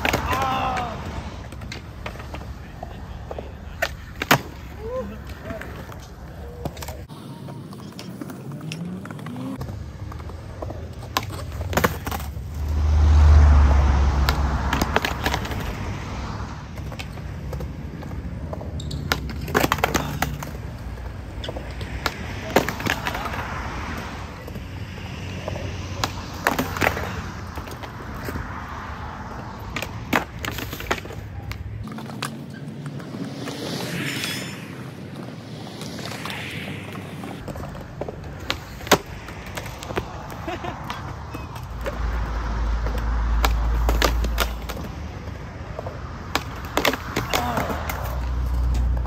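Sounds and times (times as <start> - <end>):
skateboards clacking on concrete: 0.0 - 12.7, 14.2 - 33.8, 34.9 - 49.0
skateboard wheels rolling: 0.0 - 49.0.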